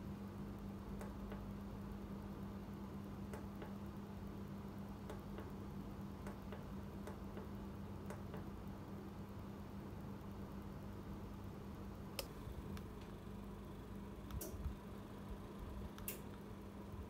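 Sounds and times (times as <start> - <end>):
heater low hum: 0.0 - 17.0.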